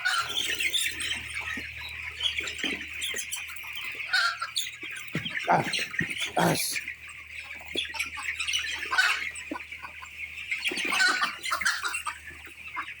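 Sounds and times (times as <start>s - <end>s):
chickens squawking and clucking: 0.0s - 13.0s
high chatter of birds: 0.0s - 13.0s.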